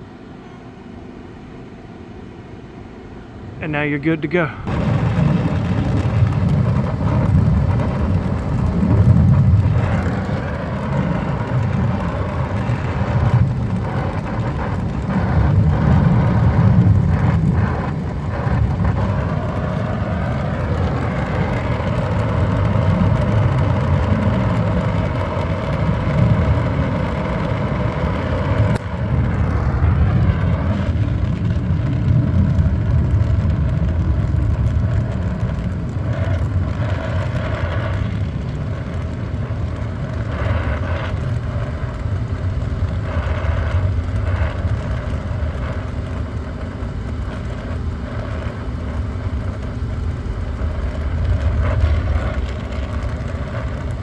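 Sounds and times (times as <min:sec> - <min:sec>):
torch flame burning: 0:00.0 - 0:54.0.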